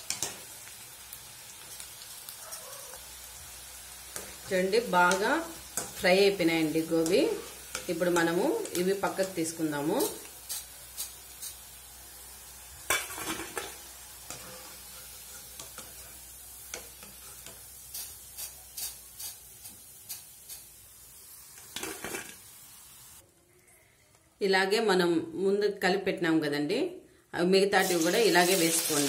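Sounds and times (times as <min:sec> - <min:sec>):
food sizzling in hot oil: 0:00.0 - 0:23.2, 0:27.8 - 0:29.0.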